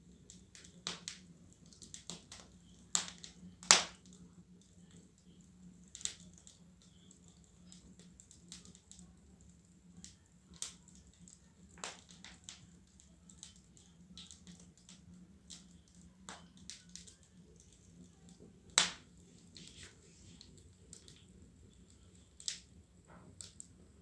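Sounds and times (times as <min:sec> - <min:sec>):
wood fire crackling: 0:00.0 - 0:24.0
fire pops and snaps: 0:00.2 - 0:24.0.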